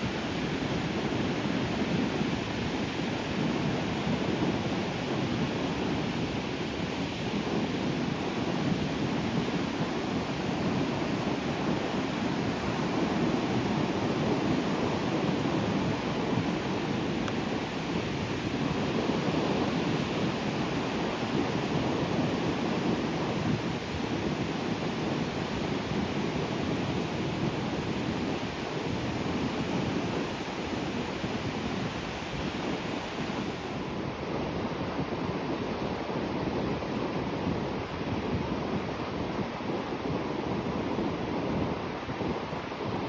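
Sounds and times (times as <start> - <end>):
wind noise on microphone: 0.0 - 43.0.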